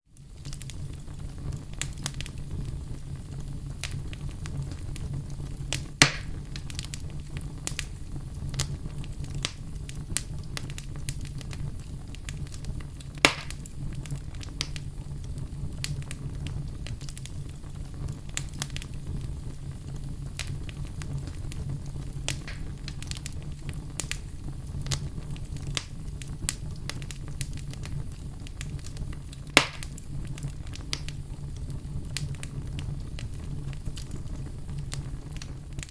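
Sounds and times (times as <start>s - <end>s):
wood fire crackling: 0.1s - 35.9s
loud fire pops: 0.2s - 35.9s.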